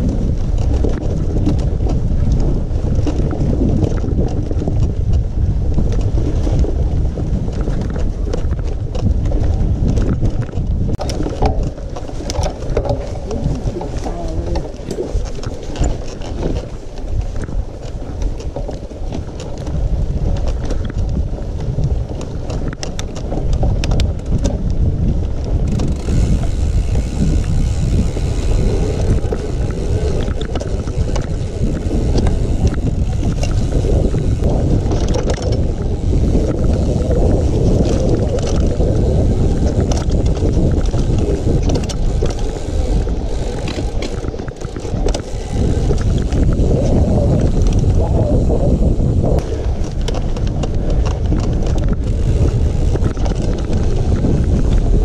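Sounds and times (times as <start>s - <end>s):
mountain bike riding over rough ground: 0.0s - 55.0s
wind buffeting microphone: 0.0s - 55.0s.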